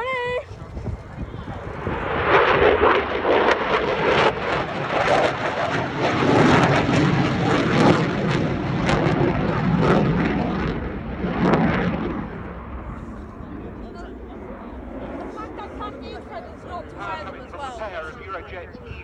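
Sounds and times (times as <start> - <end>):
crackling jet flying past: 0.4 - 19.0.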